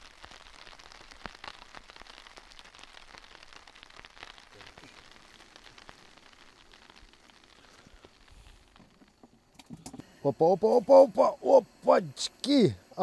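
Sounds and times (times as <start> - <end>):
rain tapping on tent fabric: 0.0 - 13.0.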